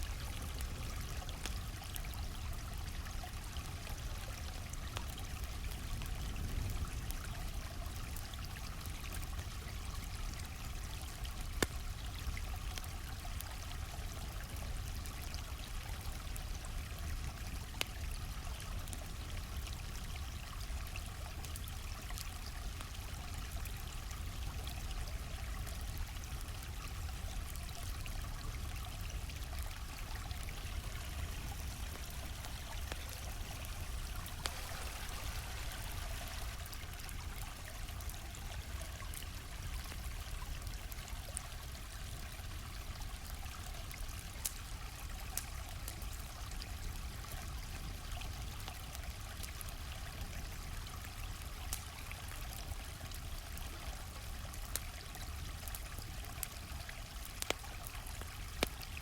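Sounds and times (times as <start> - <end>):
campfire popping and crackling: 0.0 - 59.0
stream flowing: 0.0 - 59.0.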